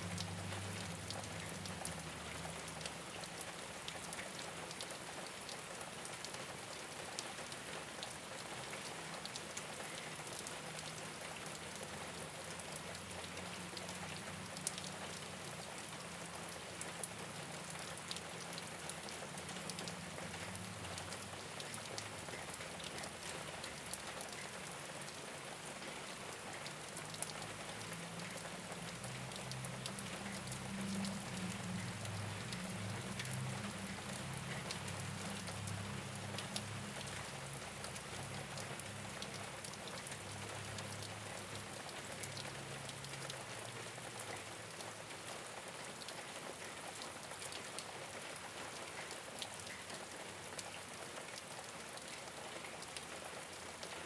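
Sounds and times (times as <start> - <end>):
rain on rooftop: 0.0 - 54.0.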